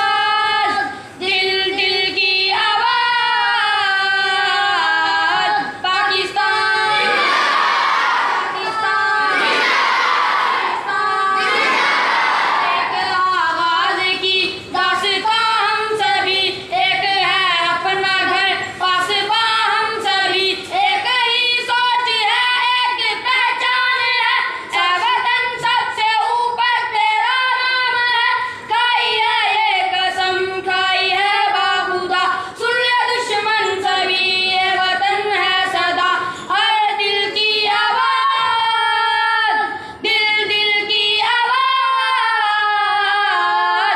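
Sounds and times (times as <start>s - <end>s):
boys singing together: 0.0s - 43.9s.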